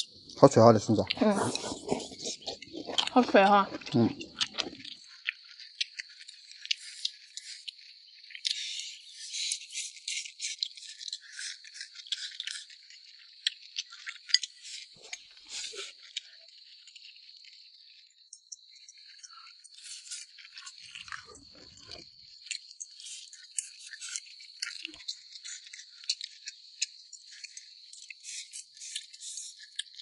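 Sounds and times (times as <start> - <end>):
crunchy bamboo shoots being chewed: 0.0 - 30.0.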